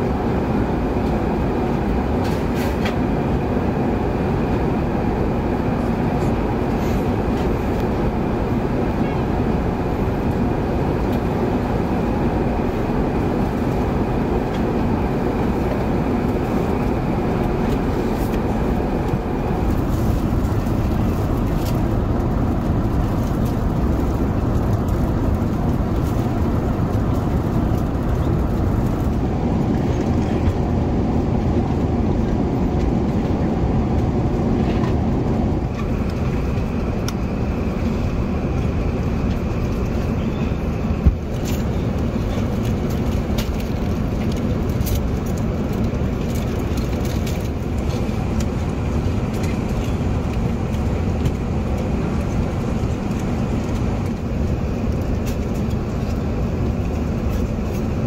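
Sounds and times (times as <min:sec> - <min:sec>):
airplane cabin noise: 0:00.0 - 0:58.0.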